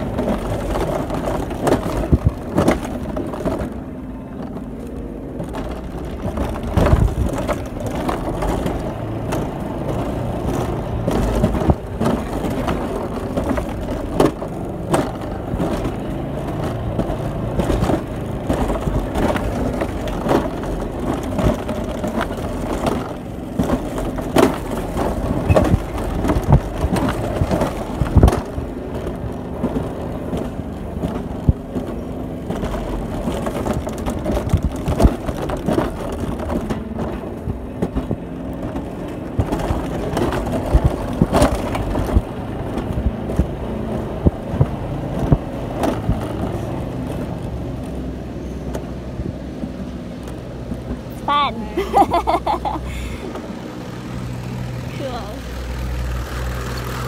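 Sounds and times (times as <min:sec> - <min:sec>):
sharp clacks and knocks: 0:00.0 - 0:57.0
wheels rumbling on steel rail: 0:00.0 - 0:57.0.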